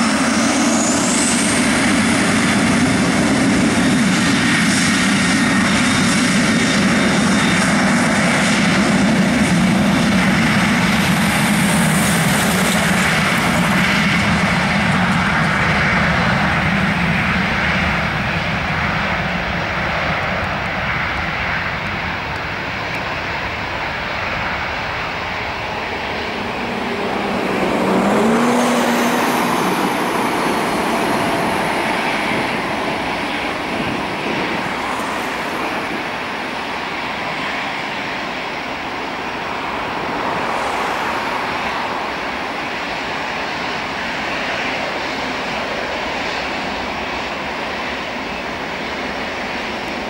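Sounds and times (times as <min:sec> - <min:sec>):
jet engines at takeoff: 0:00.0 - 0:50.0.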